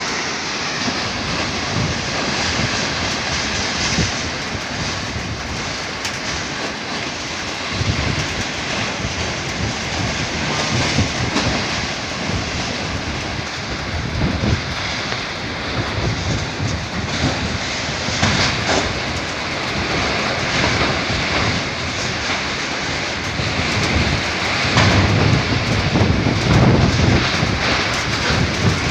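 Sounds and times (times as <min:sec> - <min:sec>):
gusty storm wind rushing: 0:00.0 - 0:28.9
wind buffeting microphone: 0:00.0 - 0:28.9.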